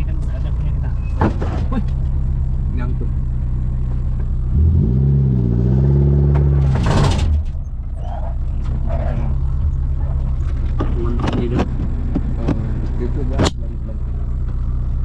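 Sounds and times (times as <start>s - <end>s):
car engine revving under load: 0.0s - 15.0s
engine clatter: 0.0s - 15.0s.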